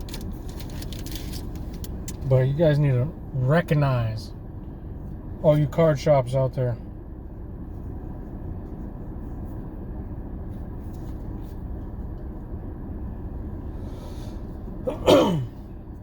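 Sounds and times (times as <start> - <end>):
car engine rumble inside car: 0.0 - 16.0.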